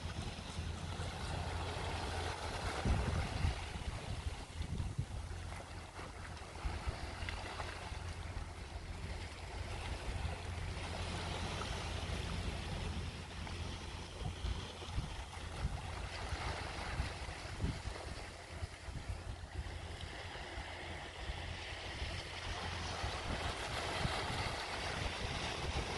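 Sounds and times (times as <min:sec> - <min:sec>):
waves washing against rocks: 0:00.0 - 0:25.9
wind buffeting the microphone: 0:00.0 - 0:25.9.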